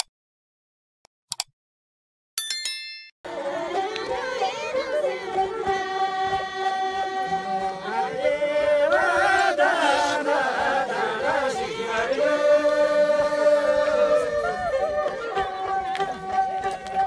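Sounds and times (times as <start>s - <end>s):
group singing folk song: 3.3s - 17.0s.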